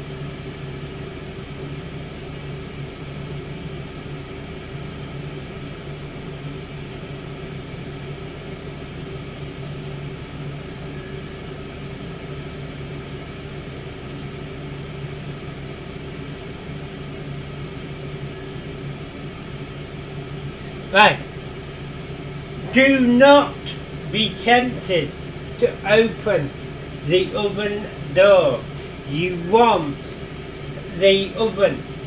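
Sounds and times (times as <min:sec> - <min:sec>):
air fryer fan humming: 0:00.0 - 0:32.0.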